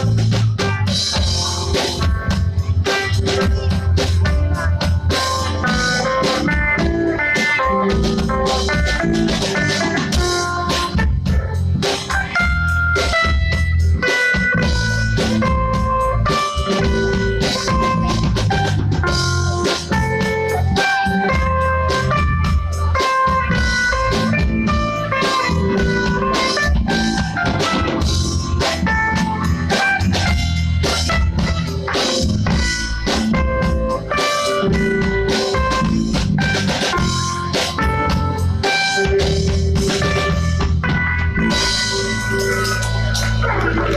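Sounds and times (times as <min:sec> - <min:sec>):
bass guitar: 0:00.0 - 0:43.9
drum kit beat: 0:00.0 - 0:43.9
picked guitar melody: 0:00.0 - 0:43.9.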